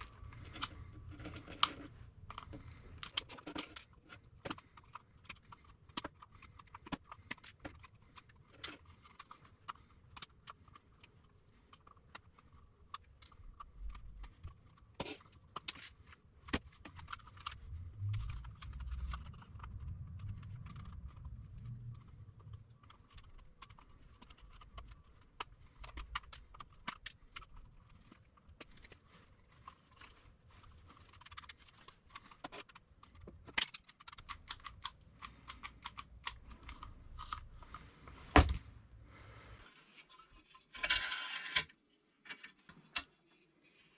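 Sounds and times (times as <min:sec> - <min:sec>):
plastic and metal parts clicking: 0:00.0 - 0:38.7.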